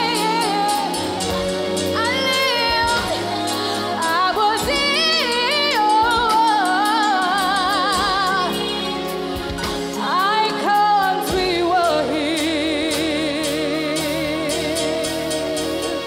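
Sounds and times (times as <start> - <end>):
instrumental backing: 0.0 - 16.0
woman singing a ballad: 0.0 - 16.0.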